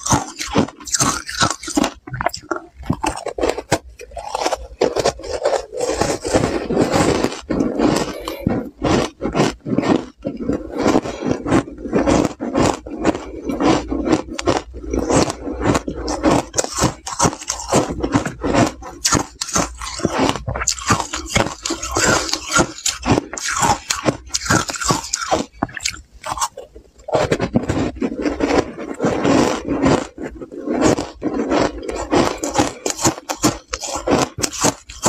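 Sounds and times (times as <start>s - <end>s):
ice cubes crunched in mouth: 0.0s - 35.0s.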